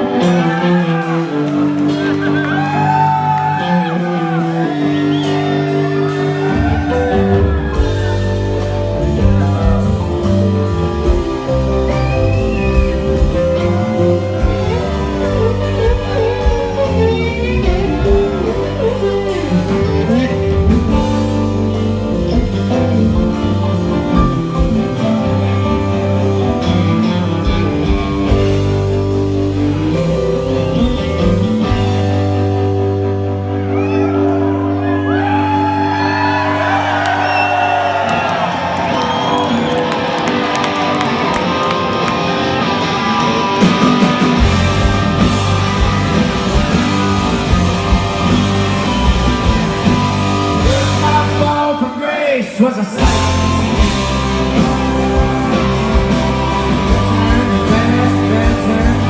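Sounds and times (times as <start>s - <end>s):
guitar bending notes: 0.0s - 51.9s, 53.0s - 59.0s
rock band playing live: 0.0s - 59.0s.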